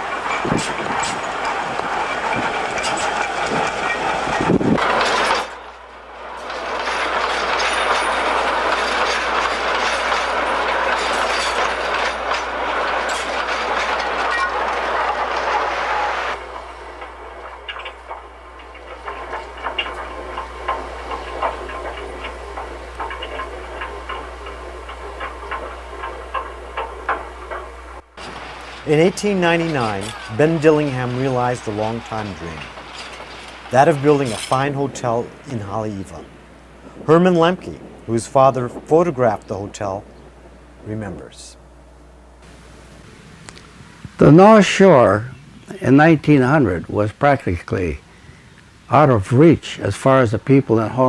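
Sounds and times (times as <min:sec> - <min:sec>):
train rumbling along track: 0:00.0 - 0:51.0
wheels clicking over rail joints: 0:00.0 - 0:51.0.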